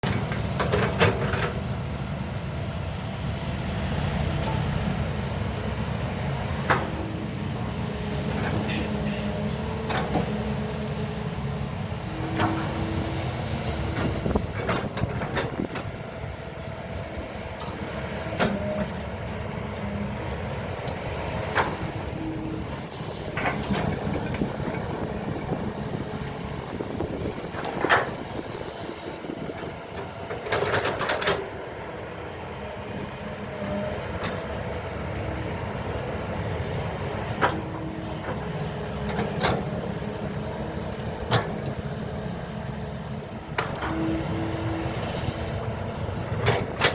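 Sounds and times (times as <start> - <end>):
excavator diesel engine running: 0.0 - 46.9
hydraulic whines: 5.8 - 11.1, 12.0 - 46.9.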